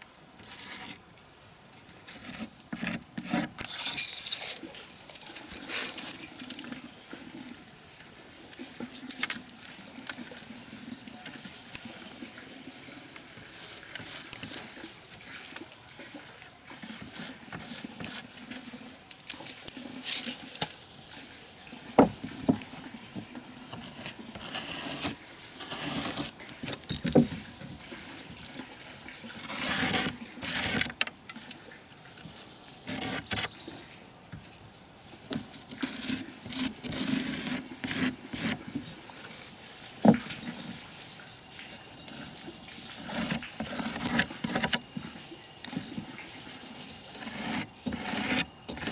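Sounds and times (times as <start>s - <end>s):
rustling and scraping: 0.4s - 1.1s, 1.7s - 48.9s.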